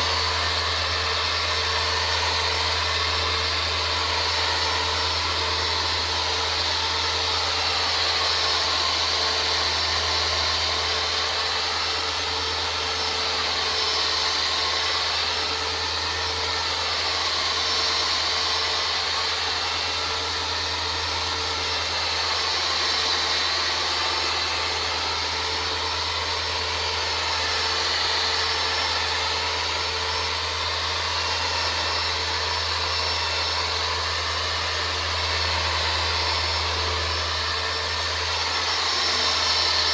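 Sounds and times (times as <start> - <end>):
power sander whirring: 0.0 - 39.9.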